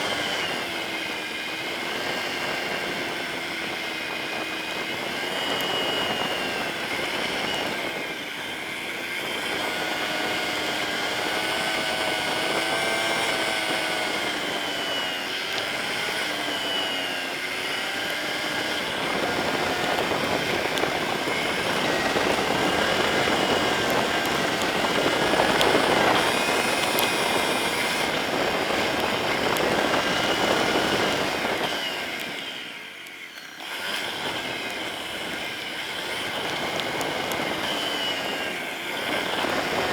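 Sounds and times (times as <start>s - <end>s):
rushing wind: 0.0s - 33.0s, 33.6s - 39.9s
motorcycle engine: 0.0s - 39.9s
road noise: 0.0s - 39.9s.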